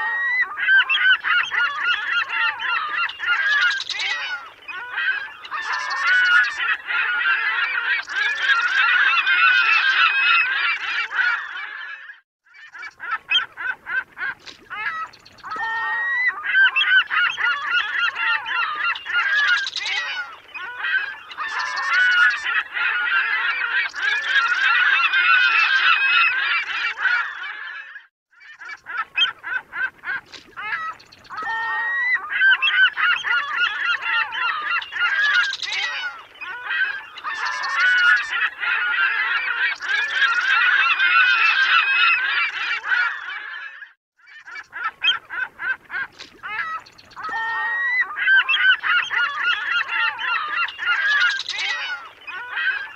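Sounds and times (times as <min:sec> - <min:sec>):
gulls calling: 0:00.0 - 0:52.9.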